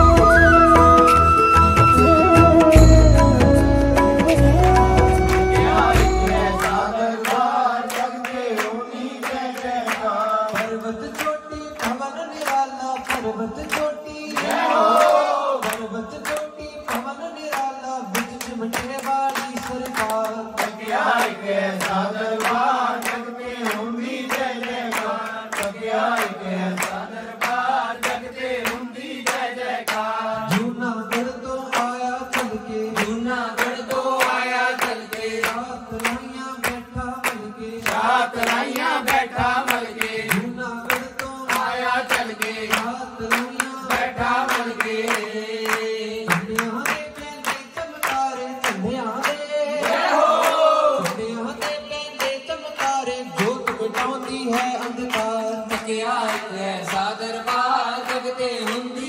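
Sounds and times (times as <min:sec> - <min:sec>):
man singing into a microphone: 0:00.0 - 0:59.0
group clapping along: 0:04.2 - 0:59.0.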